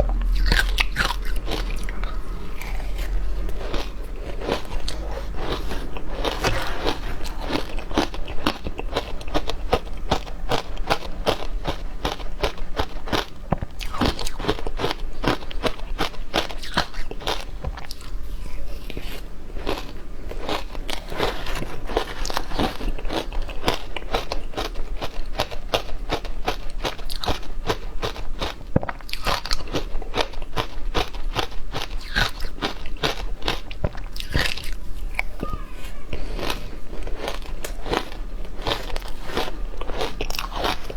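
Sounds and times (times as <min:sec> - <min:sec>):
ice crunching being chewed: 0:00.0 - 0:35.4, 0:36.1 - 0:40.9.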